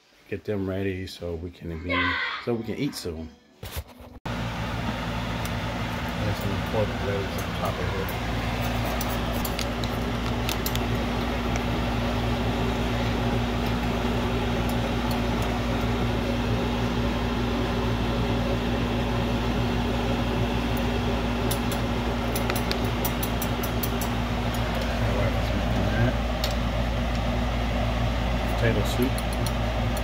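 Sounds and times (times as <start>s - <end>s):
fan motor hum: 4.3s - 30.0s.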